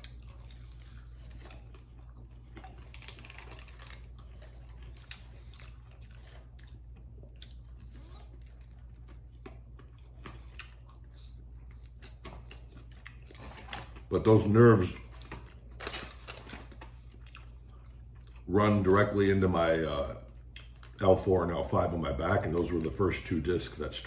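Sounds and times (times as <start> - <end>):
man chewing: 0.0 - 18.8, 20.3 - 21.0.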